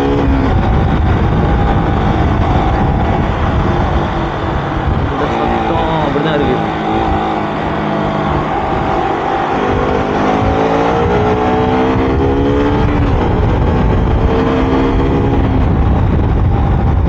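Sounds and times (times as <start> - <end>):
motorcycle engine accelerating: 0.0 - 17.0
wind rumble on microphone: 0.0 - 17.0.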